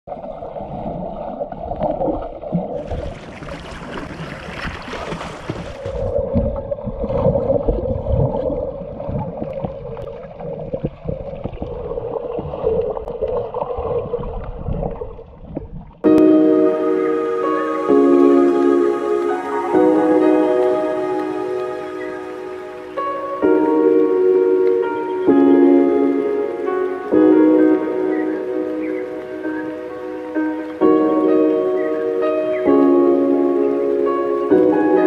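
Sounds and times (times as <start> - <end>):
muffled underwater water rushing: 0.1 - 35.0.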